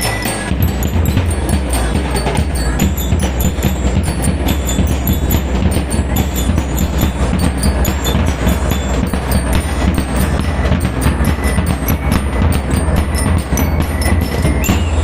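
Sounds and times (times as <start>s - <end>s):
bell lyres ringing: 0.0s - 15.0s
marching drums: 0.0s - 15.0s.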